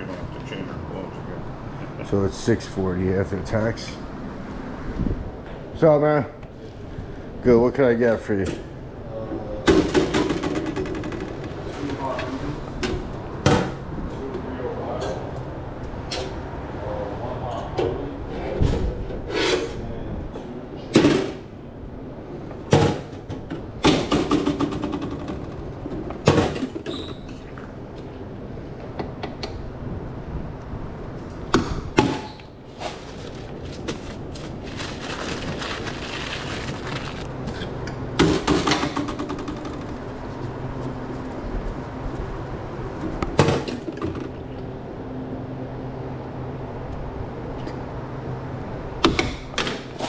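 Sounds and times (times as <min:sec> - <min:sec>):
steady background noise: 0:00.0 - 0:50.0.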